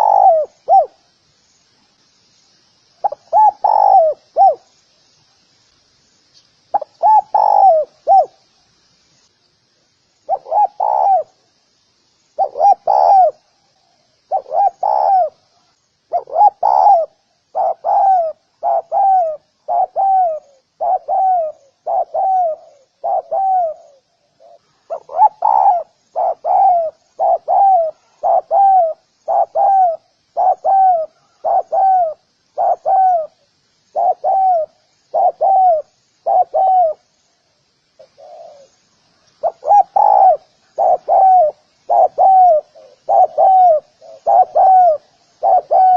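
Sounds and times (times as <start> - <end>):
dove cooing: 0.0 - 1.1, 3.0 - 4.7, 6.7 - 8.4, 10.3 - 11.4, 12.4 - 15.5, 16.1 - 37.1, 38.0 - 38.8, 39.4 - 45.9.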